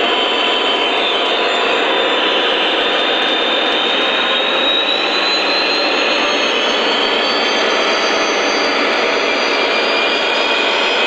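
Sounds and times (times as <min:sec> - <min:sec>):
faint high whine rising: 0:00.0 - 0:11.0.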